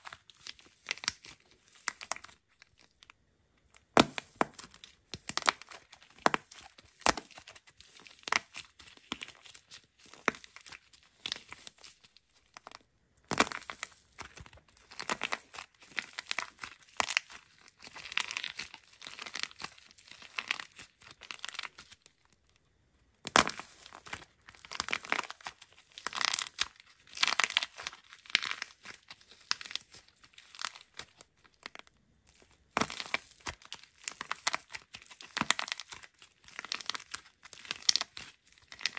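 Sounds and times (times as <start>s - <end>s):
plaster shell crackling and tearing: 0.0s - 22.3s, 23.2s - 38.9s.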